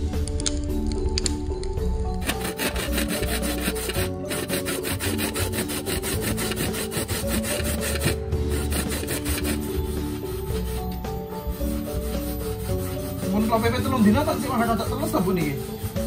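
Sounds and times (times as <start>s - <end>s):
coconut rasping on metal grater: 2.2s - 16.0s.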